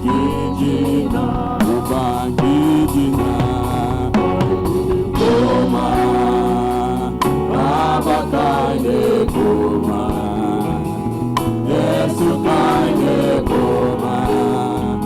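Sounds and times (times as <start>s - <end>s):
choir singing gospel music: 0.0s - 15.0s.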